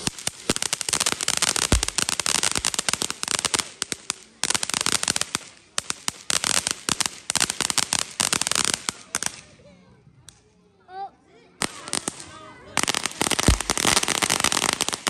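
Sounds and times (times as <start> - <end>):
firecrackers popping: 0.0 - 9.6, 11.6 - 15.0.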